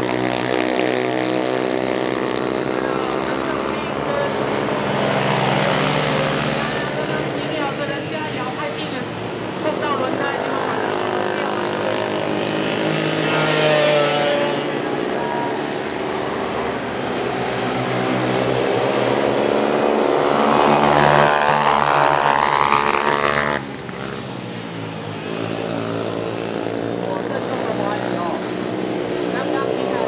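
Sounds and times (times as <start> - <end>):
quad engines racing and revving: 0.0 - 30.0.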